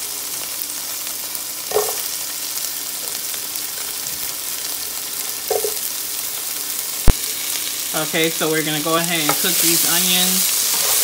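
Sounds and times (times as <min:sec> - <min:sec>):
onion sizzling in a pan: 0:00.0 - 0:11.0.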